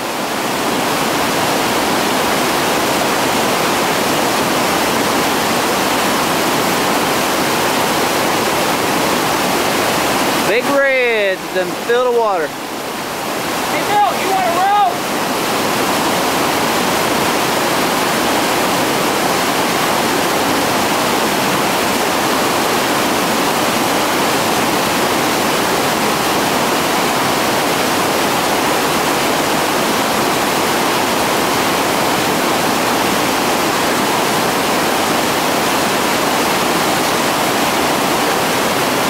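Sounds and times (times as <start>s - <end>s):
whitewater rushing over boulders: 0.0s - 39.0s.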